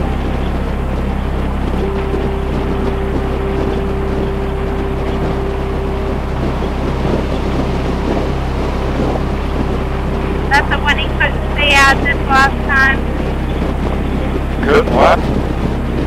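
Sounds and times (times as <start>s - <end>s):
motorcycle engine drone: 0.0s - 16.0s
thin steady whine: 0.0s - 16.0s
wind rushing past microphone: 0.0s - 16.0s.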